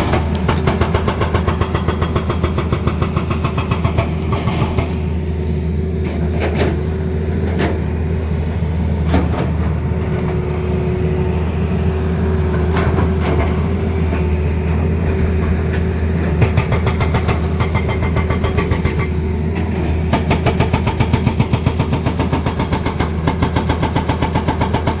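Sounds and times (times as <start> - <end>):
excavator diesel engine whining: 0.0 - 25.0.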